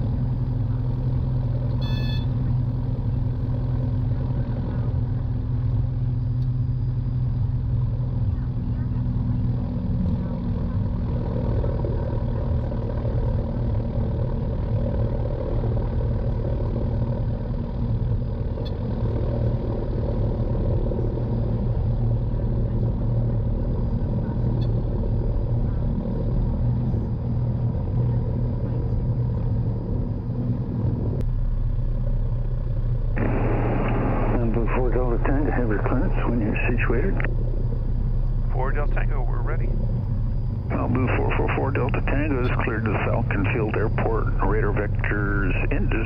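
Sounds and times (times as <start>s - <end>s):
propeller plane engine running: 0.0s - 46.0s.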